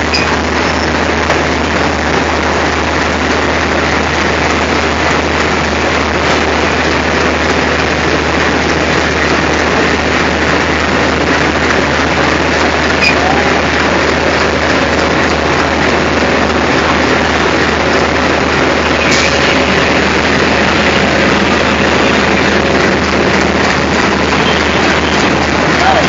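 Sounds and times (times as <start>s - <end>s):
diesel locomotive engine running: 0.0s - 26.0s.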